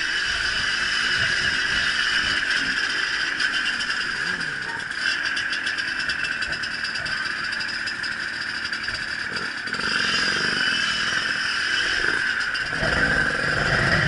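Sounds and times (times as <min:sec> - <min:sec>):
mechanical whine and rattle: 0:00.0 - 0:14.0
motorcycle engine in mud: 0:00.0 - 0:14.0.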